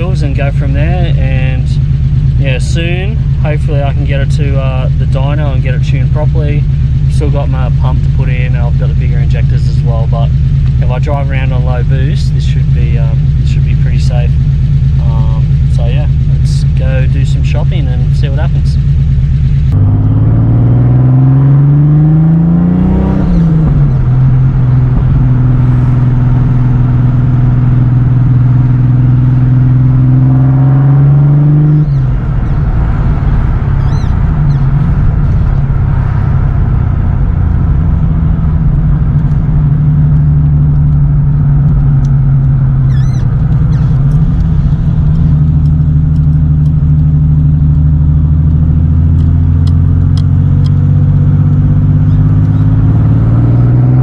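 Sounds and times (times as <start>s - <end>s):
turbocharged car engine accelerating: 0.0s - 54.0s.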